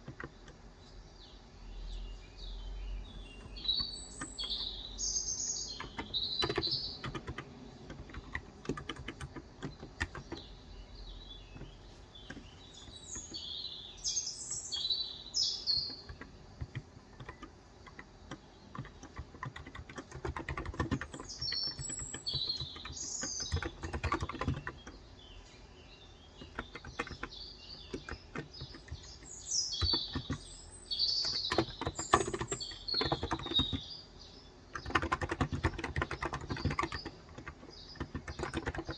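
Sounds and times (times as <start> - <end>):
keyboard typing: 0.0 - 0.6, 3.1 - 10.7, 11.4 - 13.5, 15.6 - 25.0, 26.3 - 34.0, 34.7 - 38.9
small birds chirping: 0.0 - 38.9.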